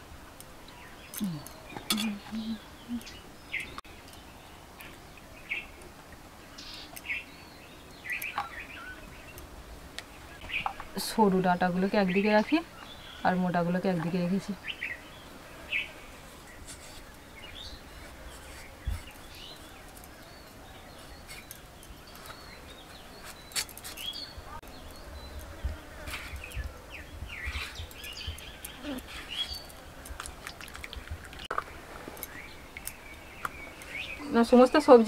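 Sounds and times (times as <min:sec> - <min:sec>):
small birds chirping: 0:00.4 - 0:35.0.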